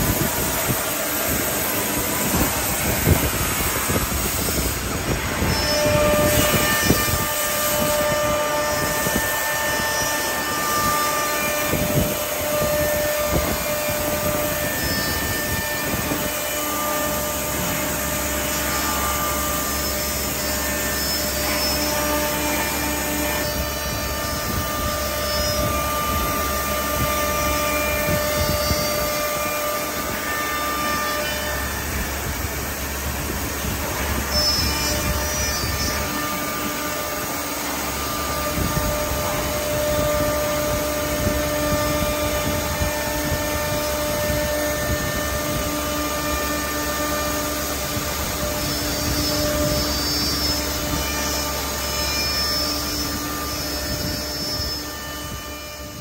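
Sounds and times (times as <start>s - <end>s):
machine and cutting noise: 0.0s - 56.0s
wood router spindles whining: 0.0s - 56.0s.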